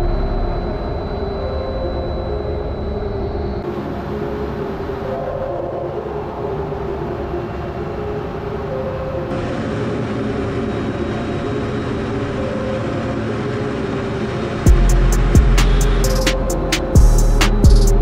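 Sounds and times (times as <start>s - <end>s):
jet engine drone: 0.0s - 18.0s
steady hum tones: 0.0s - 18.0s.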